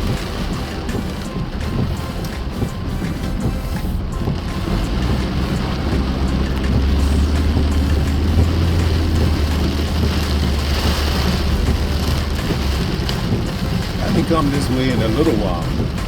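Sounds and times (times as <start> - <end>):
low rumble of engine and road: 0.0 - 16.0
rain hissing on car: 0.0 - 16.0.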